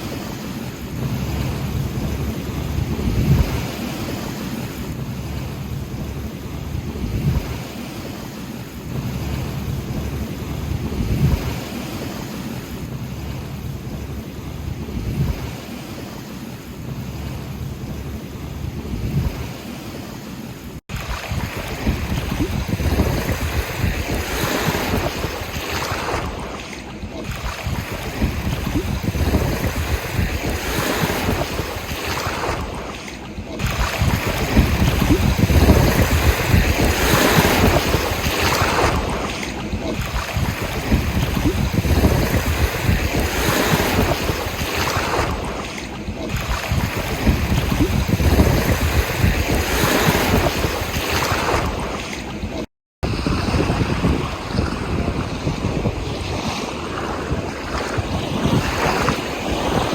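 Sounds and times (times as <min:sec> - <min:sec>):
ocean surf breaking: 0:00.0 - 0:59.9
wind rumbling: 0:00.0 - 0:59.9.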